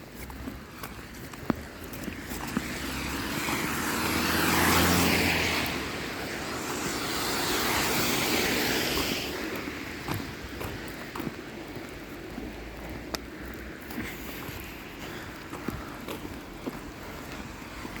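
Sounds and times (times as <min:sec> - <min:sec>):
tyres hissing on wet road: 0:00.1 - 0:18.0.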